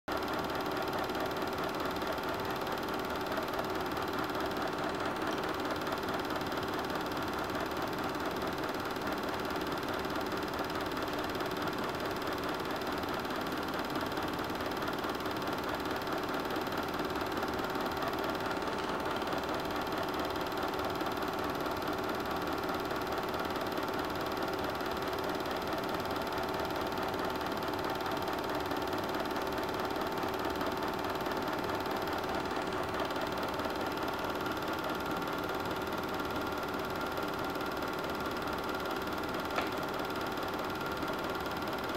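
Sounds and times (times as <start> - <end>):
film projector humming: 0.1 - 41.9.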